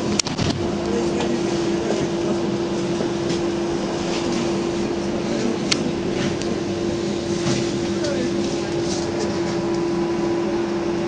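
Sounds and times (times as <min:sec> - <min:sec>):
trolleybus cabin hum and rumble: 0:00.0 - 0:11.0.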